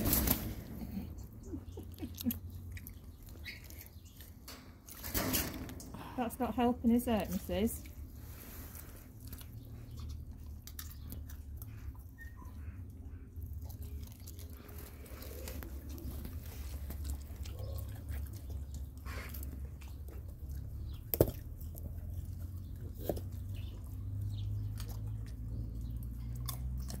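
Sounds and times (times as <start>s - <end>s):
baboon chewing pumpkin: 0.0s - 5.0s, 6.0s - 27.0s.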